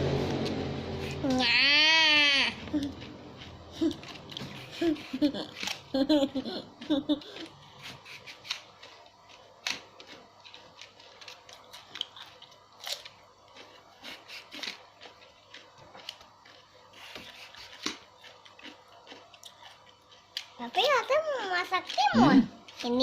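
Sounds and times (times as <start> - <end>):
chewing crunchy food: 2.6 - 23.0.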